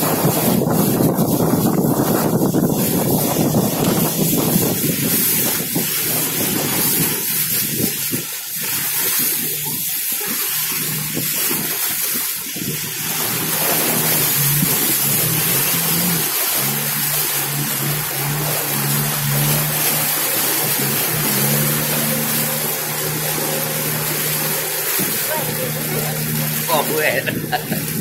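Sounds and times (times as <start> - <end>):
boat engine hum: 0.0 - 28.0
river water rushing: 0.0 - 28.0
wind buffeting microphone: 0.0 - 28.0.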